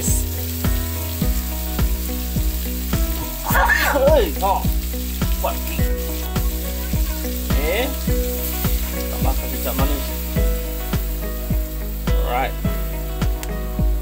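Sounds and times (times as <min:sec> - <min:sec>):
low thumps: 0:00.0 - 0:14.0
sauce sizzling in a pan: 0:00.0 - 0:14.0.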